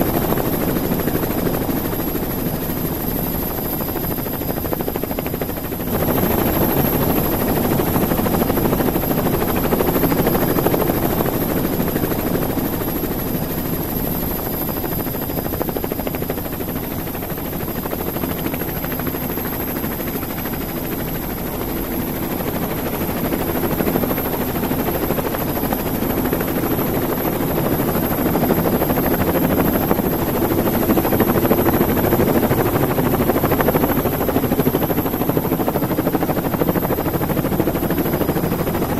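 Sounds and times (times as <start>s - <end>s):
model helicopter rotor and motor: 0.0s - 38.9s.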